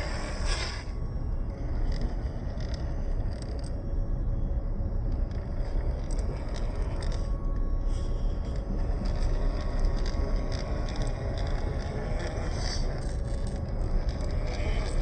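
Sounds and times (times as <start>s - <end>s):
electric motor whine: 0.0s - 15.0s
low rumble: 0.0s - 15.0s
small clicks: 1.5s - 3.9s, 5.0s - 15.0s.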